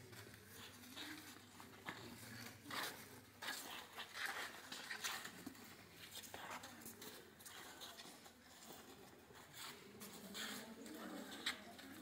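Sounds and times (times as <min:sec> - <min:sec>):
low murmured voices: 0:00.0 - 0:12.0.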